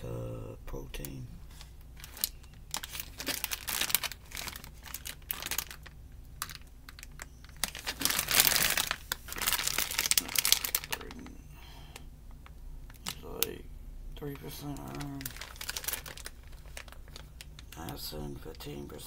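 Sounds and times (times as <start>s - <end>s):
plastic package crinkling: 1.0s - 11.4s, 12.4s - 13.5s, 14.2s - 18.8s.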